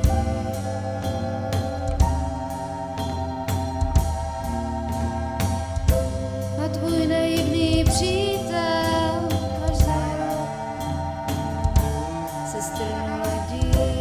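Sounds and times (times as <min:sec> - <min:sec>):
drum kit beat: 0:00.0 - 0:14.0
organ-like chords: 0:00.0 - 0:14.0
wavering melody line: 0:00.0 - 0:14.0.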